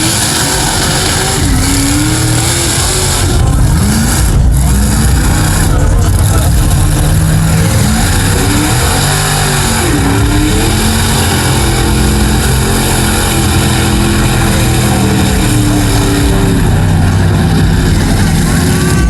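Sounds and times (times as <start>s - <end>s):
truck engine running loud: 0.0s - 19.0s.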